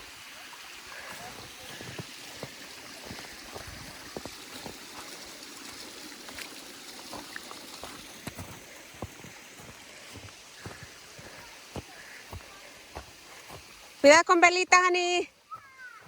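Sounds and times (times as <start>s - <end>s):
waterfall running: 0.0s - 16.0s.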